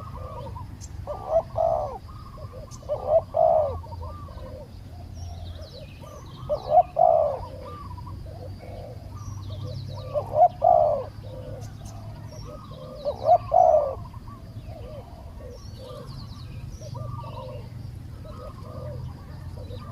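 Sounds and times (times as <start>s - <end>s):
dove cooing: 0.0s - 19.9s
small birds chirping: 0.0s - 19.9s.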